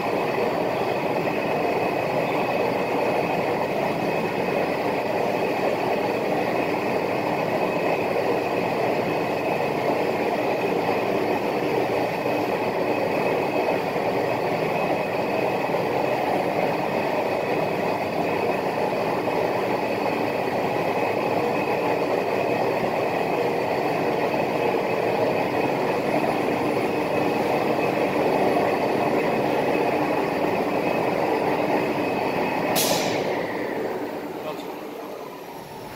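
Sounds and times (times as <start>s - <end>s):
cnc router spindle whine: 0.0s - 35.9s.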